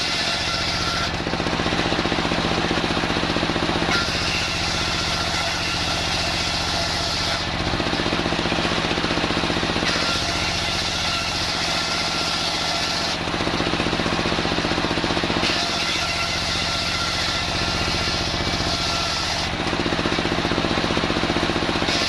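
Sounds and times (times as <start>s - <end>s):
saw blade cutting timber: 0.0s - 22.0s
sawmill engine running: 0.0s - 22.0s.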